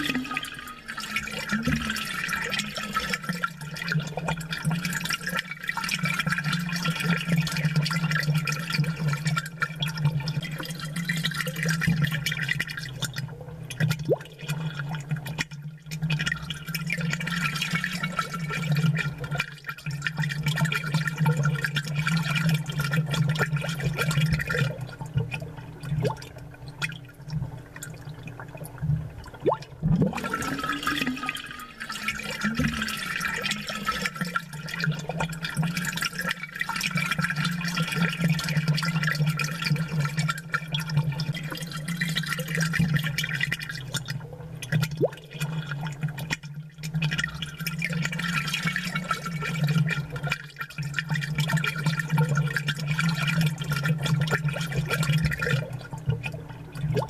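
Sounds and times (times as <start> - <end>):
aquarium bubbles burbling: 0.0 - 57.0.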